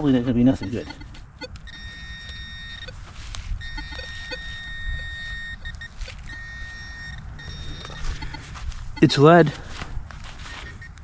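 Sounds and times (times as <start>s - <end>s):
metal detector high tone: 0.0s - 9.6s.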